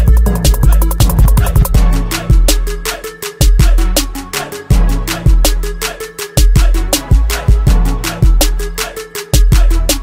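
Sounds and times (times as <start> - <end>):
music with deep bass beat: 0.0 - 10.0.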